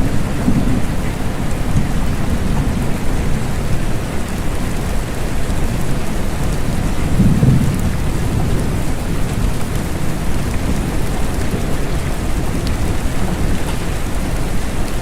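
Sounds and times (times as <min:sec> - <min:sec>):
thunder rumble: 0:00.0 - 0:14.7
steady rain: 0:00.0 - 0:15.0.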